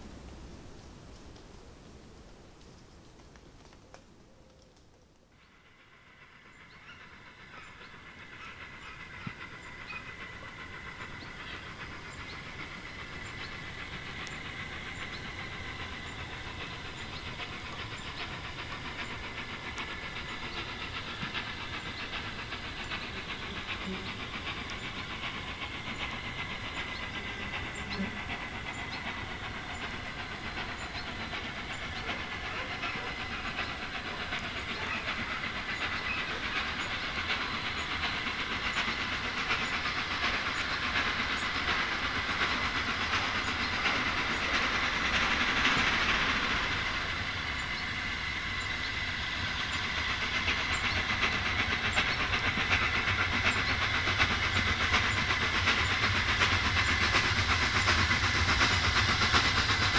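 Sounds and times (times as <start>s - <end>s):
steam locomotive exhaust beating: 5.4s - 59.9s.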